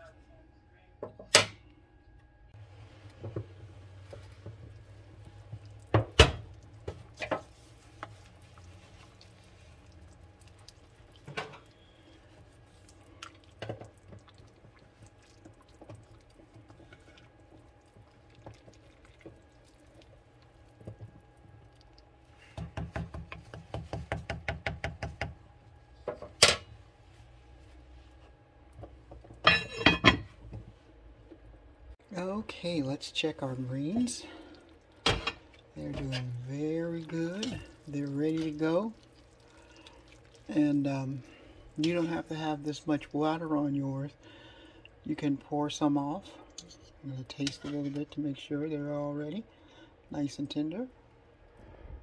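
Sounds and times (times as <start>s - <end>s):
faint steady hum: 0.0s - 52.0s
wooden spoon stirring in pot: 2.6s - 29.8s, 30.4s - 49.0s.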